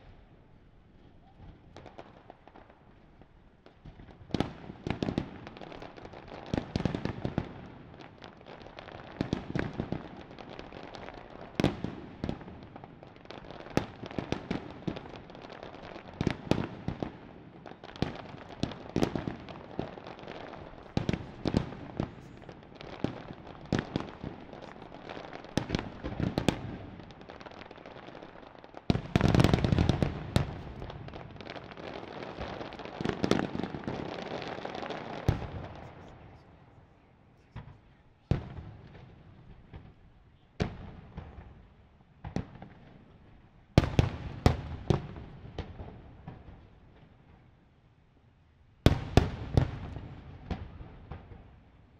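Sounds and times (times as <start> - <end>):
fireworks bangs and crackle: 0.0 - 47.7, 48.8 - 51.9.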